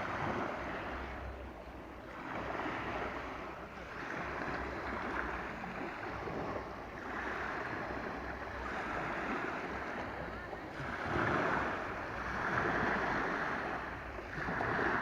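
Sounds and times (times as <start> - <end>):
waves washing onto shore: 0.0 - 15.0.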